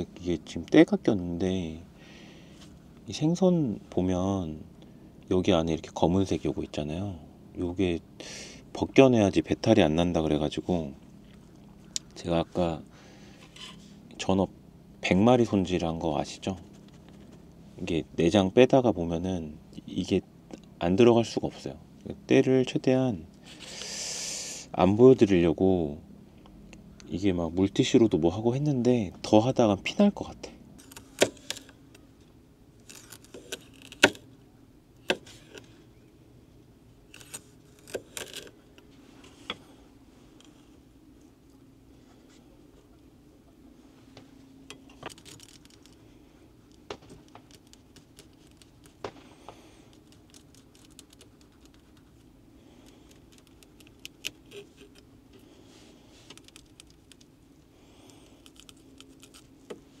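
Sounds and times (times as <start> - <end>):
faint low hum: 0.0 - 60.0.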